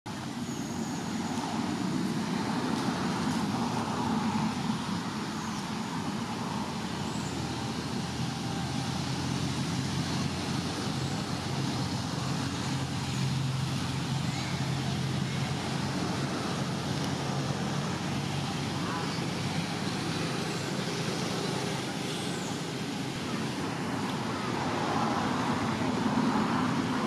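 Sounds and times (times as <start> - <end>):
road traffic rumble: 0.1 - 27.0.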